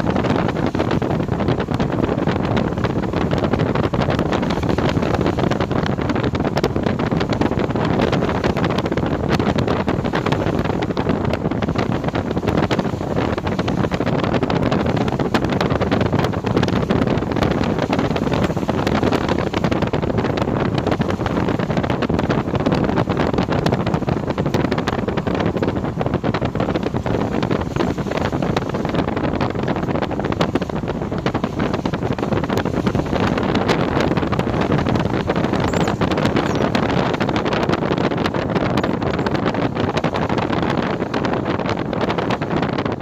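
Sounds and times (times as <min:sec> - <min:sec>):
wind on microphone: 0:00.0 - 0:43.0.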